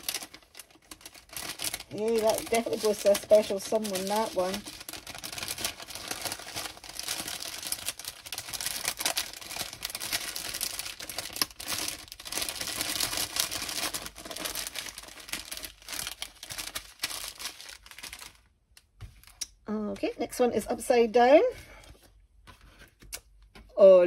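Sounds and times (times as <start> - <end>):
plastic bags crinkling: 0.0 - 19.4.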